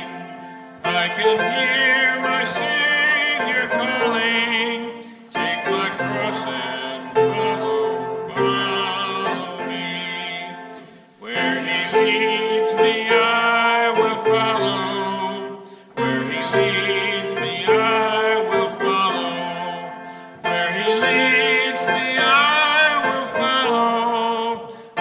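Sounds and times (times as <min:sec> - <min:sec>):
congregation singing a hymn: 0:00.0 - 0:25.0
instrumental accompaniment: 0:00.0 - 0:25.0.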